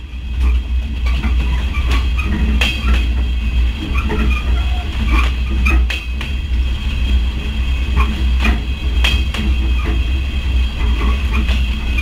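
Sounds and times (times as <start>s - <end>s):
rail wheels rumbling: 0.0s - 12.0s
wheels clacking on rail joints: 0.0s - 12.0s.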